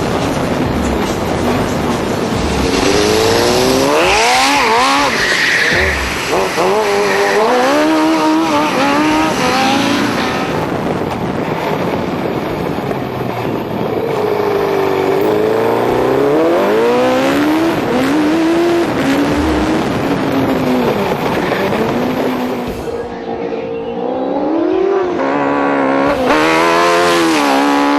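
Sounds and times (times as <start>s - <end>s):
go-kart engine accelerating: 0.0s - 27.9s.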